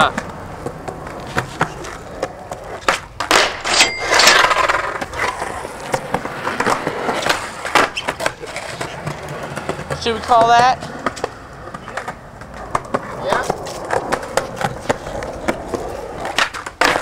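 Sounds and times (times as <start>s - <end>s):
skateboard clacking on pavement: 0.0s - 17.0s
skateboard wheels rolling on concrete: 0.0s - 17.0s
skateboard clattering scrape: 0.1s - 17.0s.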